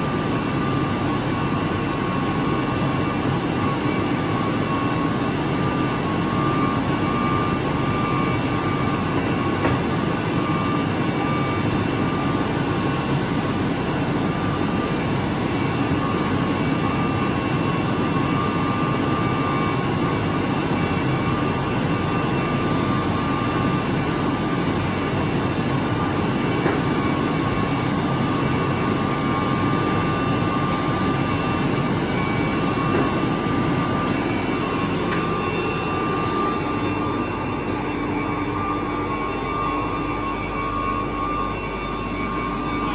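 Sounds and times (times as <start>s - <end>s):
high machine whine: 0.0s - 42.9s.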